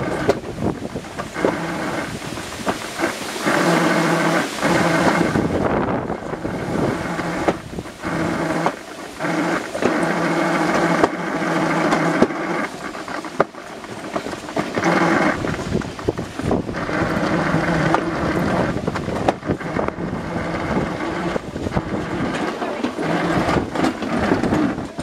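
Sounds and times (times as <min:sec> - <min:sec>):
bobsled rolling rumble: 0:00.0 - 0:25.0
wind on microphone: 0:00.0 - 0:25.0.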